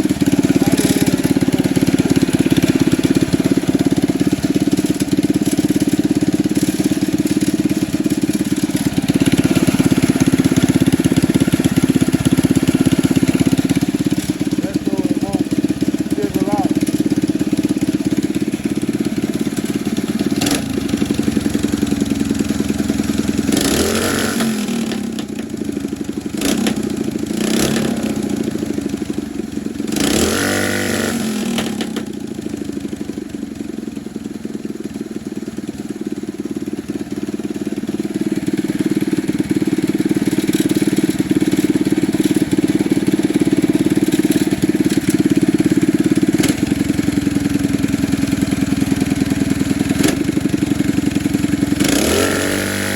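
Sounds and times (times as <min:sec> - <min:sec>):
mini bike engine running: 0:00.0 - 0:52.9.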